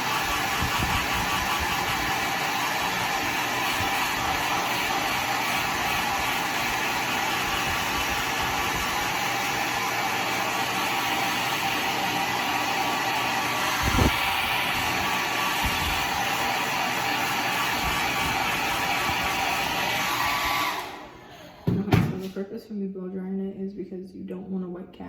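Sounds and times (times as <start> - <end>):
hair dryer blowing: 0.0 - 22.3.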